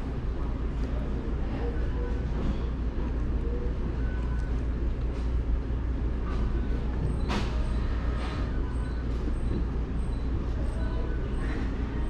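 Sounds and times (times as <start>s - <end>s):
low room rumble: 0.0s - 12.0s.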